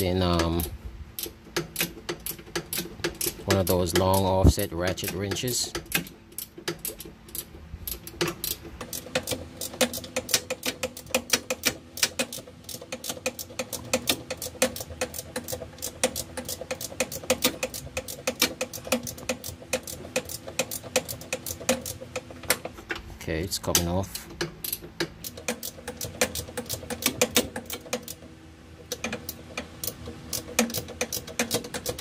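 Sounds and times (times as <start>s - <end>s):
ratcheting wrench clicking: 0.0s - 22.7s, 23.6s - 32.0s.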